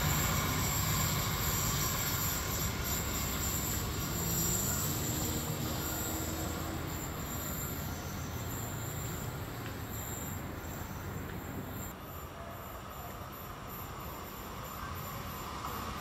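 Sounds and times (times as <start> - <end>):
train rumbling: 0.0 - 12.2, 12.8 - 16.0.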